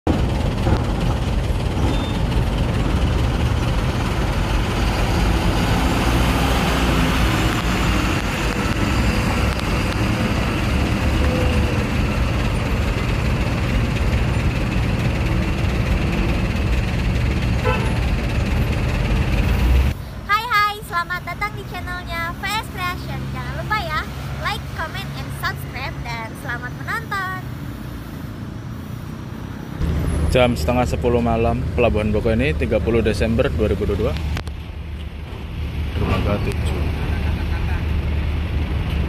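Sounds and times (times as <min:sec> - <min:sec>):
truck engines driving past: 0:00.1 - 0:39.0.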